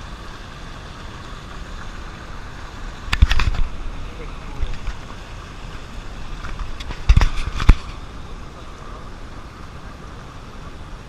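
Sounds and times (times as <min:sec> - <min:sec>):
running water: 0:00.0 - 0:11.0.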